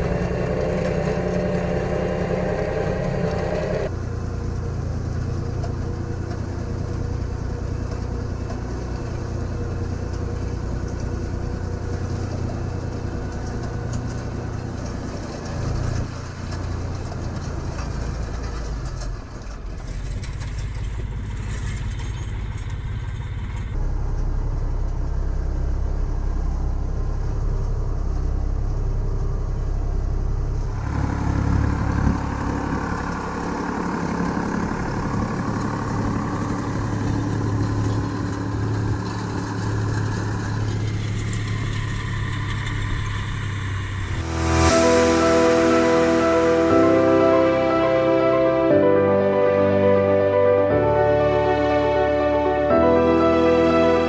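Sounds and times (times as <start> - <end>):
hay tedder working: 0.0 - 25.3, 30.4 - 54.0
tractor engine rumbling: 0.0 - 54.0.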